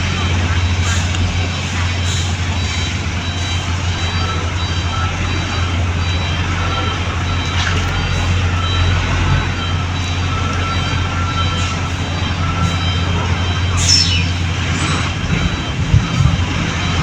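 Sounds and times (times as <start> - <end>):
backup alarm beeping: 0.0 - 17.0
diesel engine running: 0.0 - 17.0.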